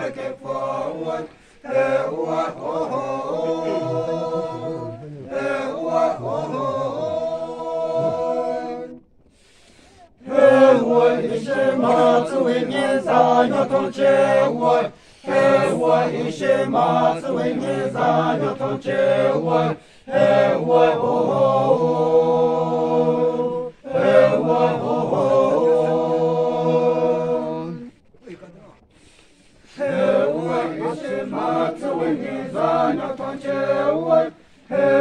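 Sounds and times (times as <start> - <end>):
men chanting in unison: 0.0 - 9.0, 10.2 - 27.9, 29.7 - 35.0.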